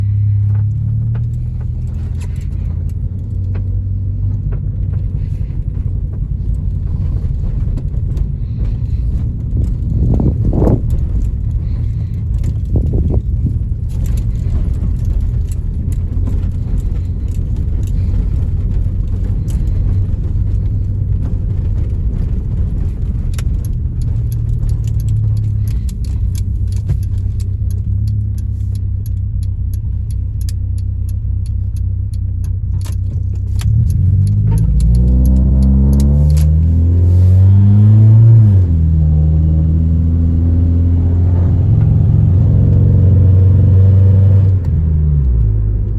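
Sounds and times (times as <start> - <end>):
small rattle: 0.0 - 38.6
engine and road rumble: 0.0 - 45.9.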